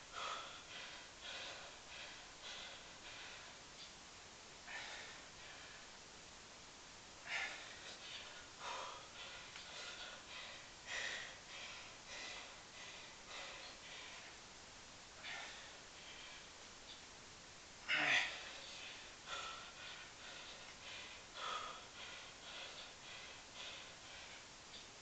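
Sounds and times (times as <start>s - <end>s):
man breathing hard: 0.0s - 3.9s, 4.6s - 6.0s, 7.2s - 14.5s, 15.1s - 16.7s, 17.8s - 25.0s.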